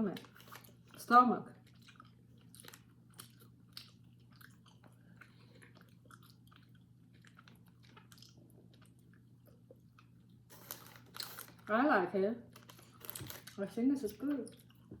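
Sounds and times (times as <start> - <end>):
chewing candy: 0.0 - 11.7, 12.5 - 13.6, 14.2 - 15.0
low steady hum: 0.0 - 15.0.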